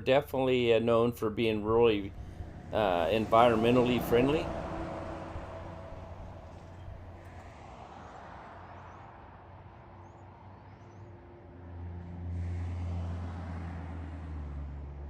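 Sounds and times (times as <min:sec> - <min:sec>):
vehicle engine and road hum: 0:00.0 - 0:08.6, 0:11.2 - 0:15.0.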